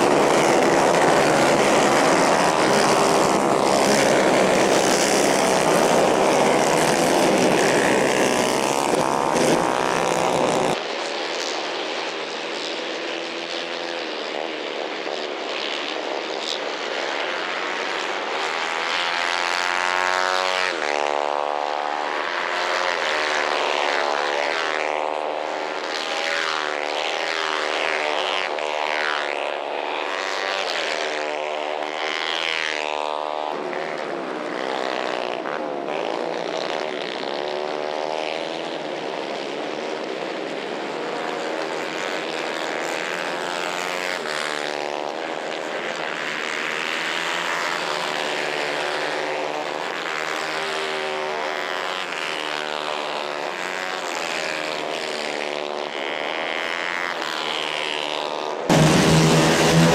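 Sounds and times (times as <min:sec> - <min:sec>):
distant kart engines revving: 0:00.0 - 0:59.9
kart engine running close: 0:00.0 - 0:59.9.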